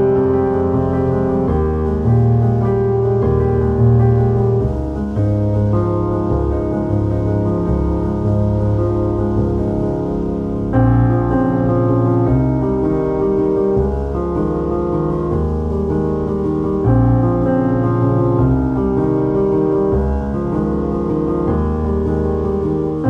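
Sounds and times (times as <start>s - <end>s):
background music with sustained chords: 0.0s - 23.0s
low bass line: 0.0s - 23.0s.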